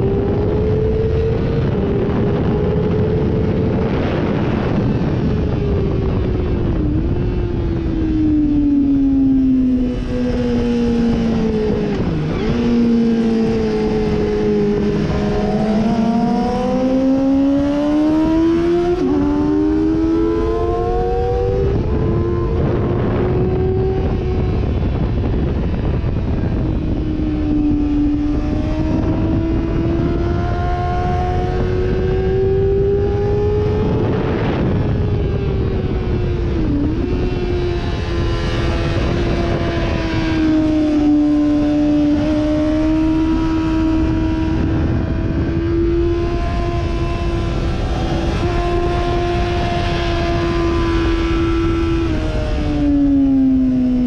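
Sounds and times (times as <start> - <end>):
motorcycle engine revving through gears: 0.0 - 54.0
wind rush: 0.0 - 54.0.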